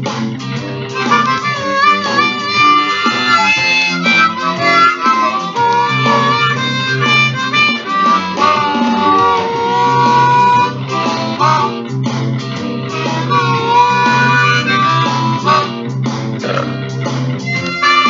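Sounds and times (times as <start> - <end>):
blues harmonica with bending notes: 0.4 - 18.0.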